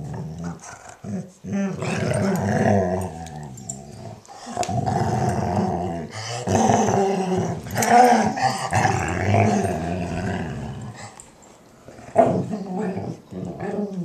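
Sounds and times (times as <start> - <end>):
dog grumbling groans: 0.0 - 11.2, 11.9 - 14.0.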